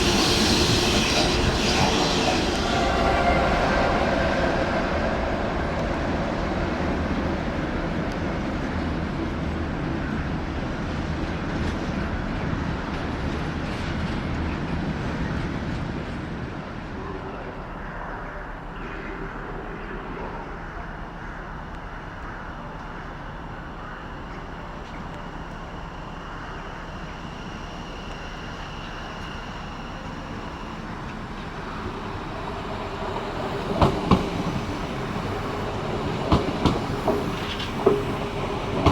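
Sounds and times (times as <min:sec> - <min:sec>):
rail and station noise: 0:00.0 - 0:38.9
train rumbling over rails: 0:00.0 - 0:38.9.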